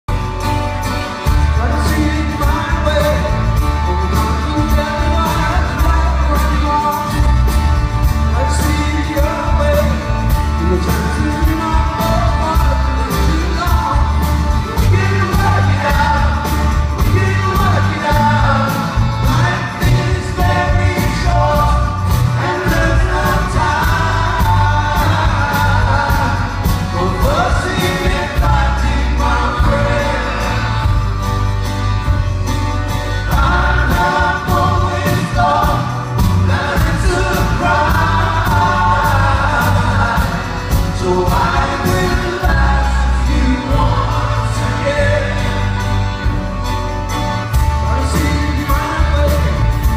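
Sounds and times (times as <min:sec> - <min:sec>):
live band playing: 0:00.0 - 0:49.9
man singing: 0:01.2 - 0:31.2, 0:33.1 - 0:46.4, 0:47.7 - 0:49.9.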